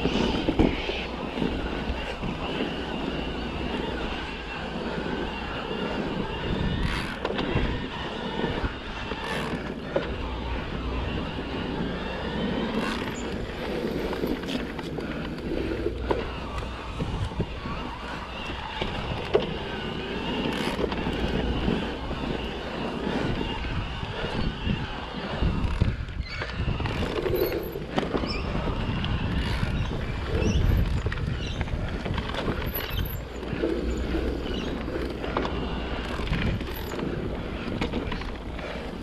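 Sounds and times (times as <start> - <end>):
bike rattling over bumps: 0.0 - 39.0
bike tyres rumbling on dirt: 0.0 - 39.0
wind buffeting microphone: 0.0 - 39.0.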